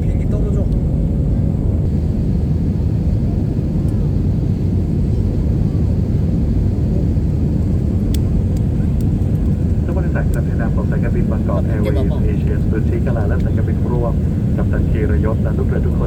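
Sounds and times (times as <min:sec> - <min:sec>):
airliner engines rumbling: 0:00.0 - 0:16.0.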